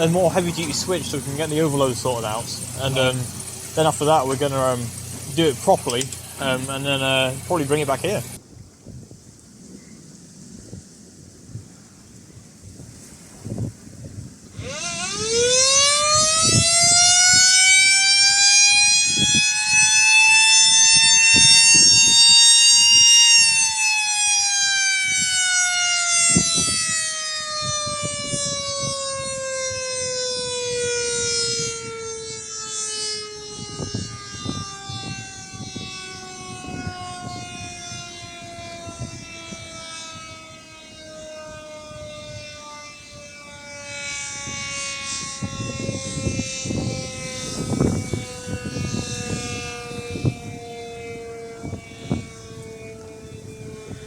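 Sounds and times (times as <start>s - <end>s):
electromechanical siren wailing: 0.0s - 8.4s, 14.5s - 54.0s.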